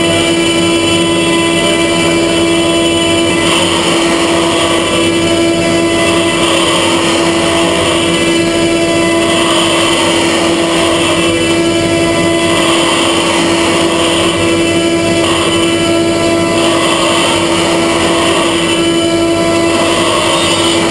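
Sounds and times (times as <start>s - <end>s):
milling machine cutting metal: 0.0s - 20.9s.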